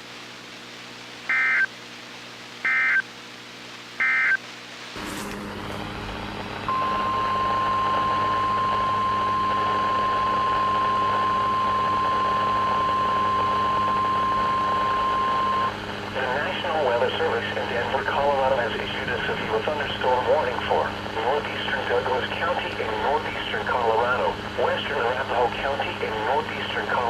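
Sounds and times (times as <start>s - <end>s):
hissing humming radio background: 0.0s - 27.0s.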